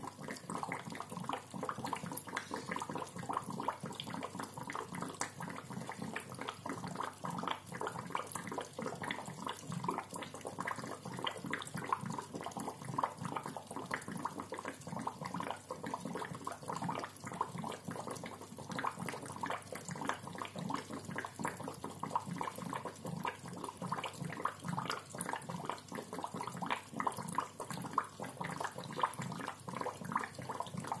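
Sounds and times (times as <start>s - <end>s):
aquarium bubbler gurgling: 0.0s - 31.0s.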